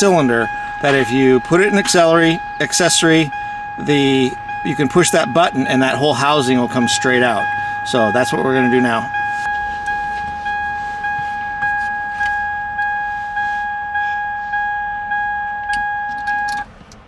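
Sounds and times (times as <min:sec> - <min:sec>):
car reminder chime dinging: 0:00.0 - 0:16.7.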